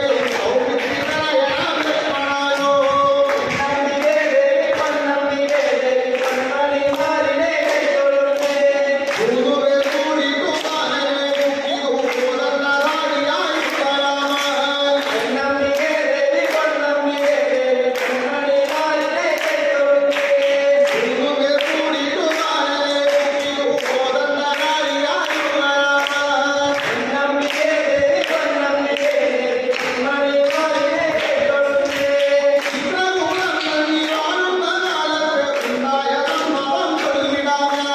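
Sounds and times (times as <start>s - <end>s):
group singing in unison: 0.0s - 37.9s.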